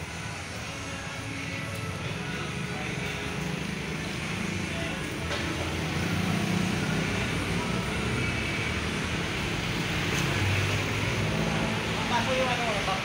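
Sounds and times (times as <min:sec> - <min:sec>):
constant background noise: 0:00.0 - 0:13.0.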